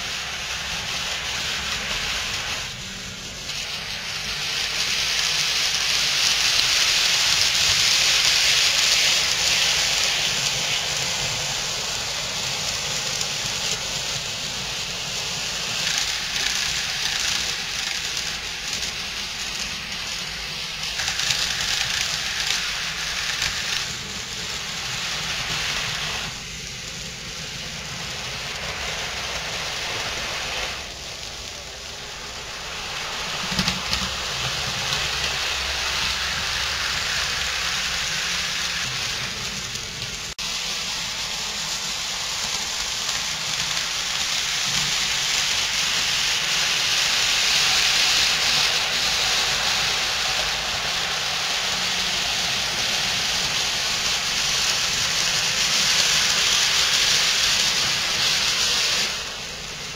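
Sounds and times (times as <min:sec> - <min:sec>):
model trains running on track: 0:00.0 - 0:59.9.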